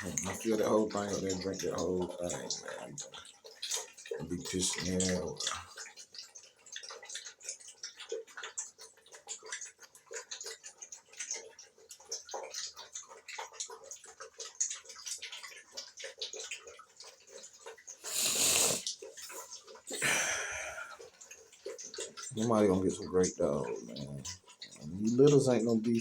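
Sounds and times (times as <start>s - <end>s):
puppies lapping water: 0.0s - 26.0s.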